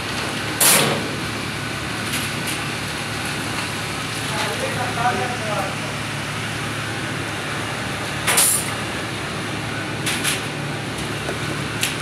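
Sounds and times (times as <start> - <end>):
kitchen machinery hum and fan: 0.0 - 12.0.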